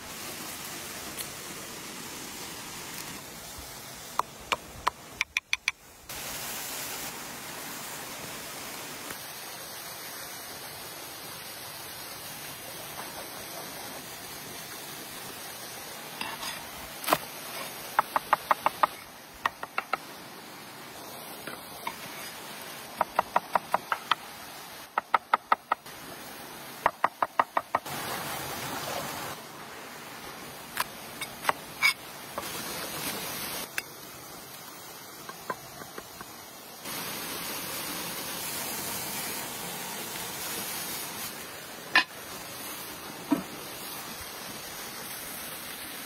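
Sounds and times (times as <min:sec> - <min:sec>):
outdoor hiss: 0:00.0 - 0:46.0.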